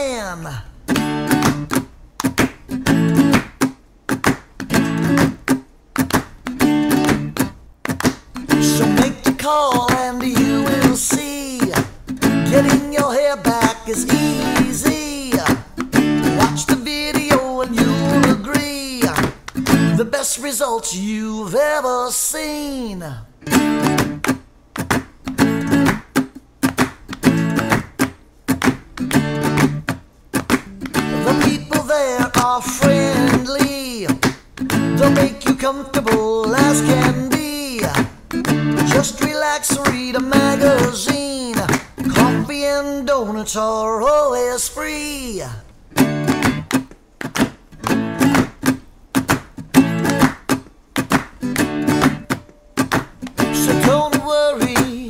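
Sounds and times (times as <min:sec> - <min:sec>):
acoustic guitar strumming chords: 0:00.0 - 0:20.5, 0:22.6 - 0:55.0.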